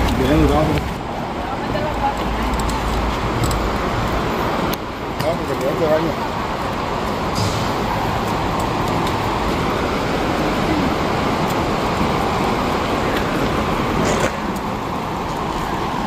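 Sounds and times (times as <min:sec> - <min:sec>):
road traffic rushing: 0:00.0 - 0:16.0.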